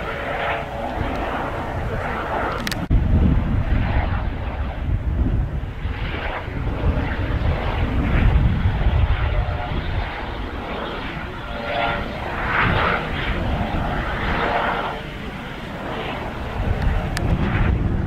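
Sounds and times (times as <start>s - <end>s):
helicopter rotor and turbine: 0.0s - 18.0s.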